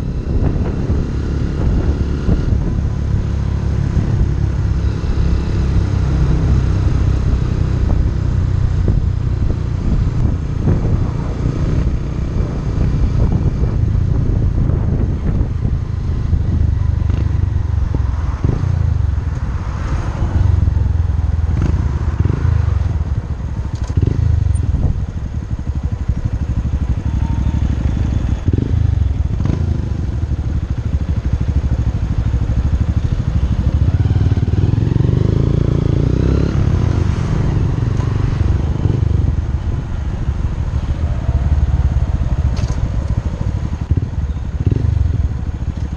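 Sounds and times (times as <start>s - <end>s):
motorcycle engine running: 0.0s - 45.9s
wind rumble on microphone: 0.0s - 45.9s.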